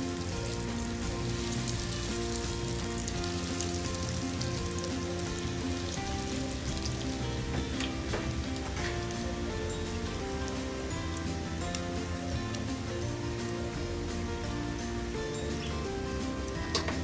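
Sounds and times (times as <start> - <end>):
oil sizzling and crackling: 0.0 - 17.0
soft background music: 0.0 - 17.0.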